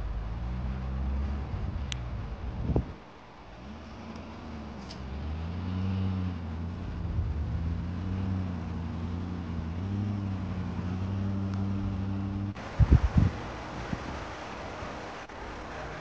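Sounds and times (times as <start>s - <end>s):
vehicle engine under load: 0.0s - 16.0s.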